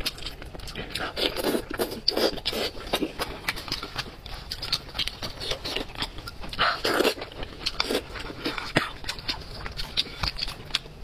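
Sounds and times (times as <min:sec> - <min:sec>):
wet chewing and lip-smacking: 0:00.0 - 0:11.0.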